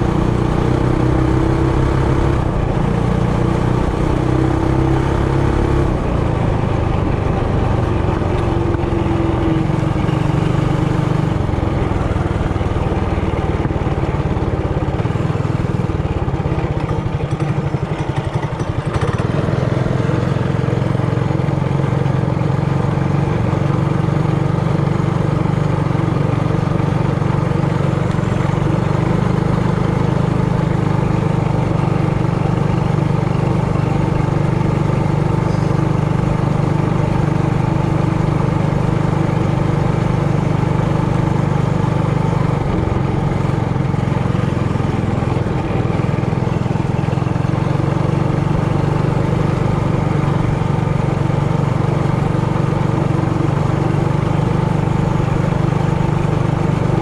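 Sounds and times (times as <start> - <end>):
mini bike engine running: 0.0 - 57.0.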